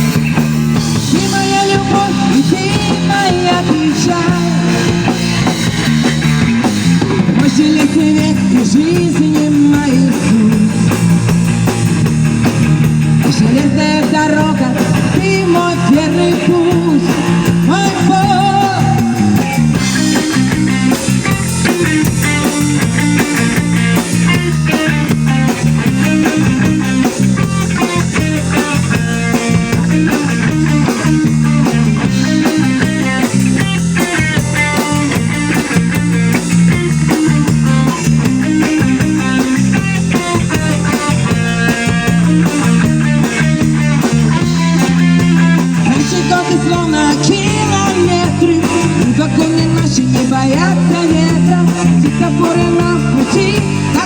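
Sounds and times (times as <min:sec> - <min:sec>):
drum kit steady beat: 0:00.0 - 0:54.0
electric guitar playing rock: 0:00.0 - 0:54.0.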